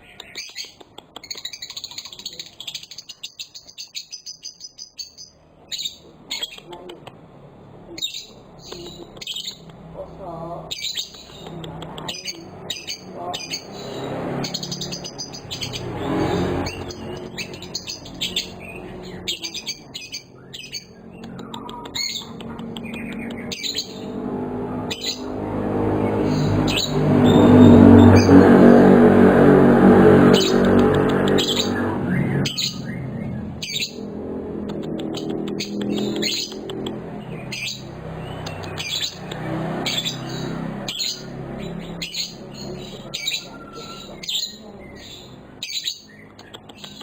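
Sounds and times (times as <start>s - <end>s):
lovebird chirping and squawking: 0.0s - 7.0s, 8.0s - 9.9s, 10.6s - 29.0s, 30.1s - 47.0s
low rumbling noise: 7.0s - 45.6s.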